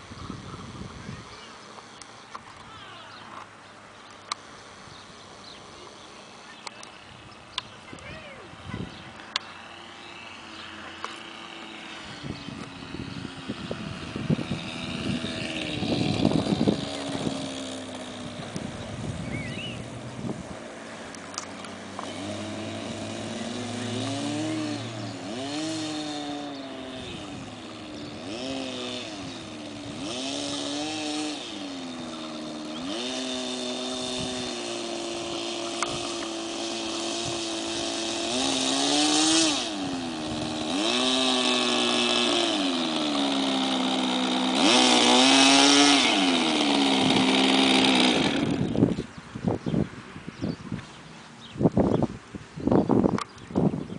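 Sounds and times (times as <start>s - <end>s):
model plane engine and propeller: 0.0s - 53.9s.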